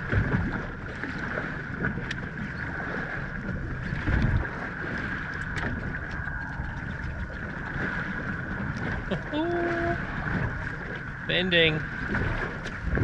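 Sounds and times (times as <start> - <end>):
water slapping against hull: 0.0 - 13.0
wind on microphone: 0.0 - 13.0.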